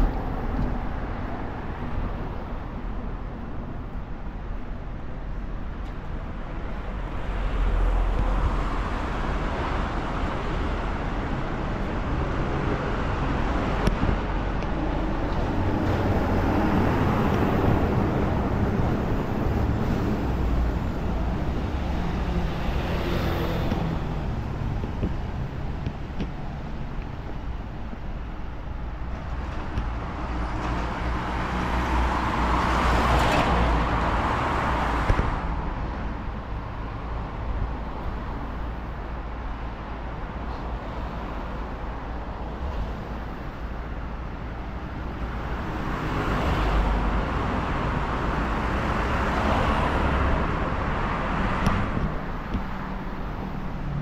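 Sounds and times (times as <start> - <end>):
cars passing: 0.0 - 54.0
low engine hum: 0.0 - 54.0.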